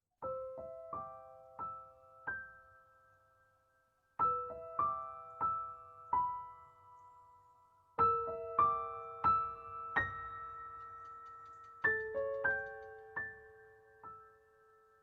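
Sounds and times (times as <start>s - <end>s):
slow gentle piano notes: 0.2s - 15.0s.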